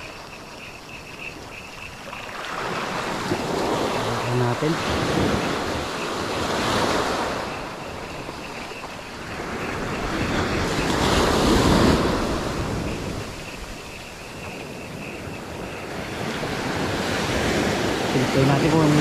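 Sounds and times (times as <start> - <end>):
sea waves washing onto shore: 0.0 - 19.0
wind buffeting microphone: 0.0 - 19.0.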